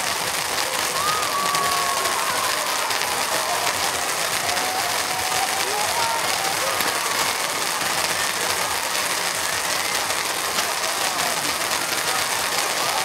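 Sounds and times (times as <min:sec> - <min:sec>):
firework fountains crackling: 0:00.0 - 0:13.0.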